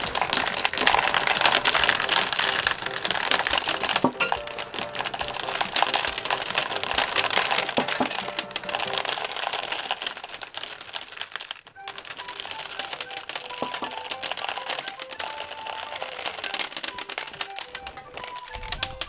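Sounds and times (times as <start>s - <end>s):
gumballs clattering into plastic pool: 0.0s - 19.0s.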